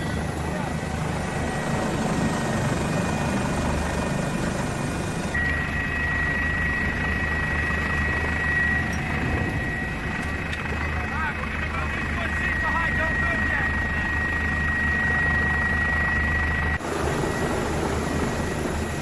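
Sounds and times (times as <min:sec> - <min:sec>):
helicopter running: 0:00.0 - 0:19.0.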